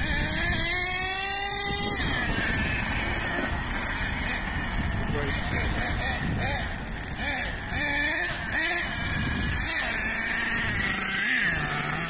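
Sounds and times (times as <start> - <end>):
small nitro engine revving: 0.0 - 12.0.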